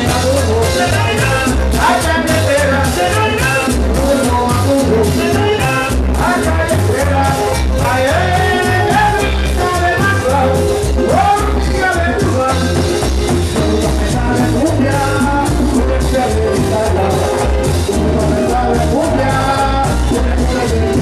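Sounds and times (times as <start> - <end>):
band playing through sound system: 0.0 - 21.0
person singing: 0.0 - 21.0
pulsing bass beat: 0.0 - 21.0.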